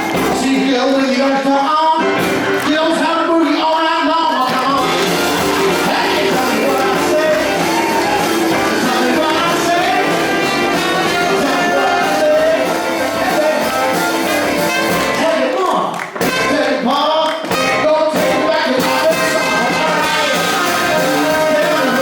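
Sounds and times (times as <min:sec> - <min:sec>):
person singing: 0:00.0 - 0:22.0
rock and roll band playing: 0:00.0 - 0:22.0.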